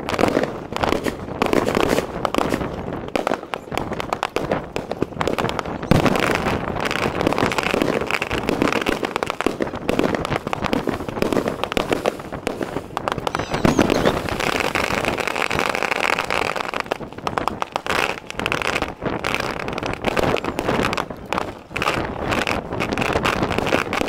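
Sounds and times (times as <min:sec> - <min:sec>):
firework bangs and crackle: 0:00.0 - 0:24.0.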